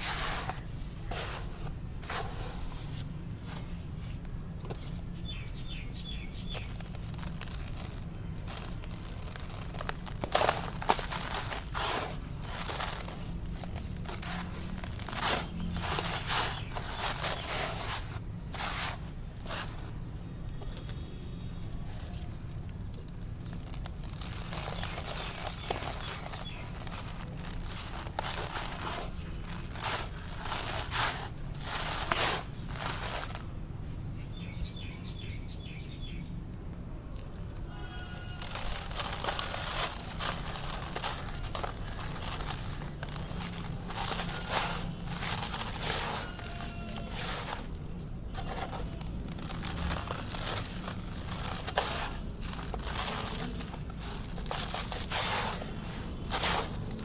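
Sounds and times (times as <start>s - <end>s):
concrete crumbling and crunching: 4.8s - 19.8s, 22.0s - 33.4s, 37.6s - 57.0s.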